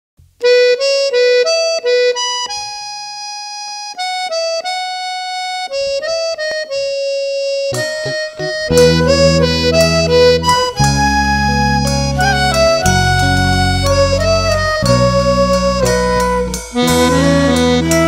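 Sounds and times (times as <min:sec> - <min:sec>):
other instruments and bass: 0:00.2 - 0:18.0
free-reed instrument melody: 0:00.3 - 0:18.0.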